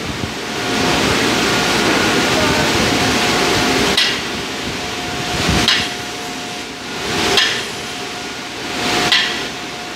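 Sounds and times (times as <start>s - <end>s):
blast furnace noise: 0.0s - 9.9s.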